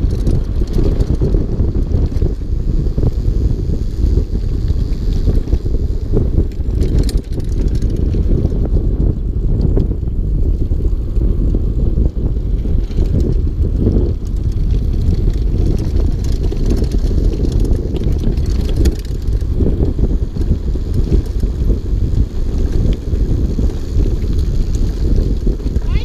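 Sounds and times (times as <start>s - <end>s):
bike clicks and knocks: 0.0s - 2.5s, 4.0s - 25.8s
wind and trail rumble: 0.0s - 26.0s.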